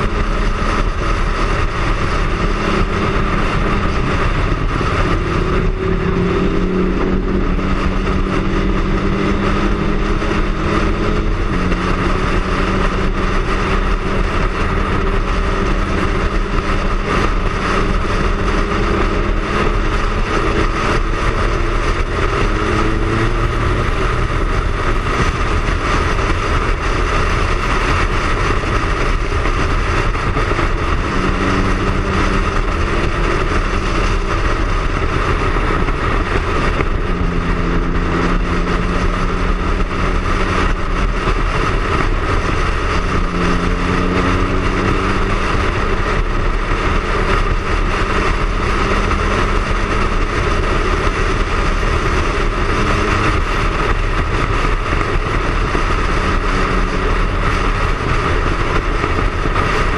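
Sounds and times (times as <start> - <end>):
motorcycle engine steady note: 0.0 - 59.9
wind rushing over microphone: 0.0 - 59.9.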